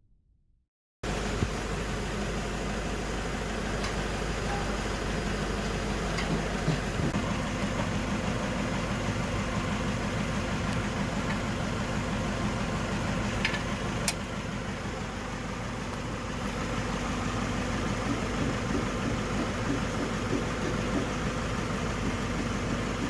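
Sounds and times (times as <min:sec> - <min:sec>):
car engine idling: 0:01.0 - 0:23.0.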